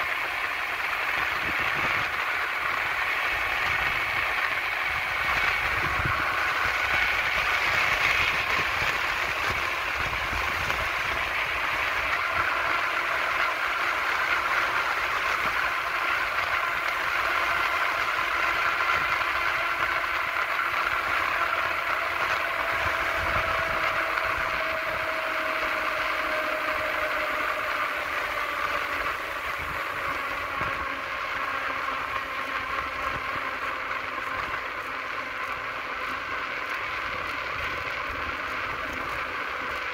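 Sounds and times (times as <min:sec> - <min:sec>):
wheels rolling on asphalt: 0:00.0 - 0:39.9
wind: 0:00.0 - 0:39.9.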